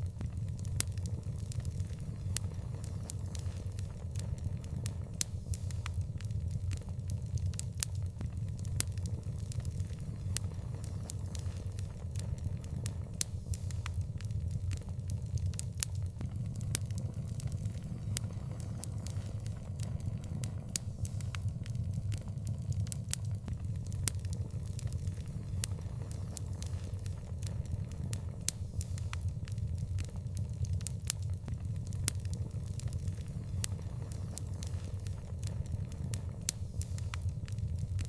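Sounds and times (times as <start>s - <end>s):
low rumble of burning: 0.0s - 38.0s
open fire crackling and popping: 0.0s - 38.0s.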